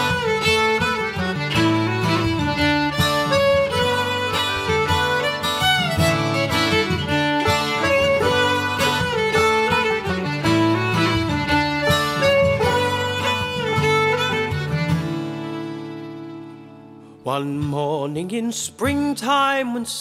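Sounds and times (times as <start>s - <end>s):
upbeat instrumental folk music: 0.0s - 19.2s.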